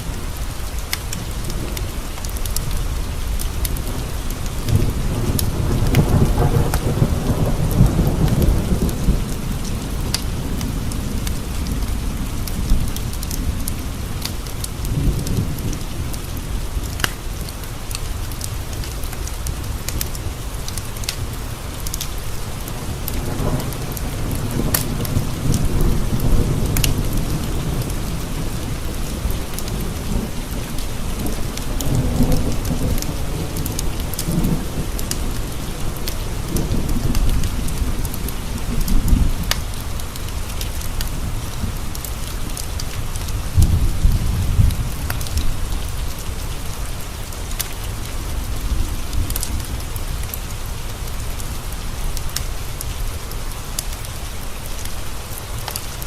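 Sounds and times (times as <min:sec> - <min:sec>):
rain on windowpanes: 0:00.0 - 0:56.0
low rolling thunder: 0:01.2 - 0:17.5, 0:18.2 - 0:53.0.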